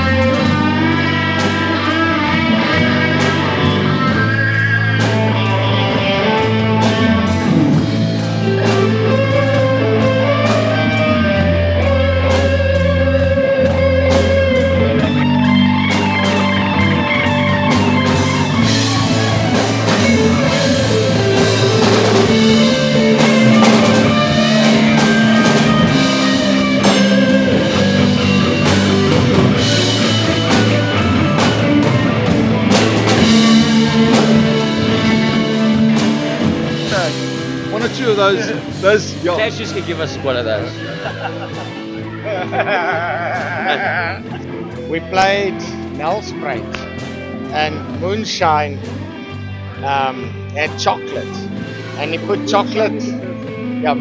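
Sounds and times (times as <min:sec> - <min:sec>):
drum kit: 0:00.0 - 0:54.0
electric guitar bluesy melody: 0:00.0 - 0:54.0
steady bass line: 0:00.0 - 0:54.0.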